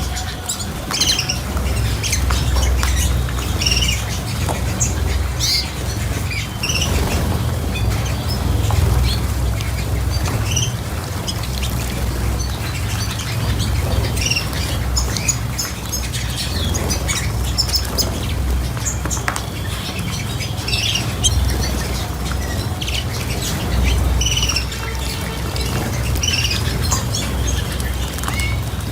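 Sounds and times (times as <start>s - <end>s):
cage birds chirping: 0.0s - 28.9s.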